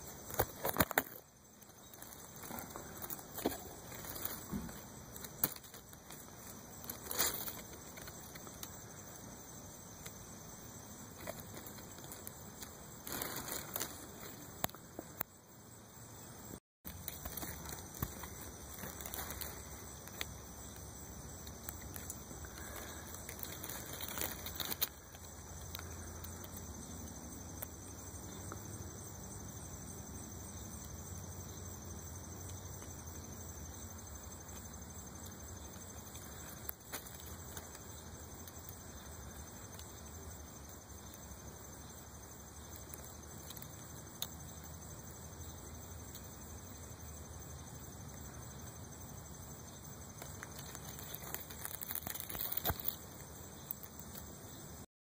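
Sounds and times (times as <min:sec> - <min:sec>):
faint outdoor background noise: 0:00.0 - 0:54.9.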